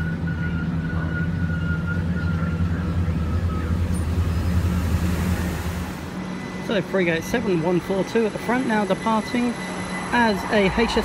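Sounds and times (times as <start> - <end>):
electric train humming: 0.0 - 11.0
faint high whine: 0.0 - 11.0.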